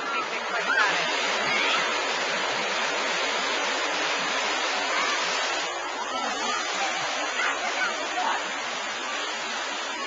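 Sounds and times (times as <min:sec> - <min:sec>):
wave breaking and churning: 0:00.0 - 0:10.0.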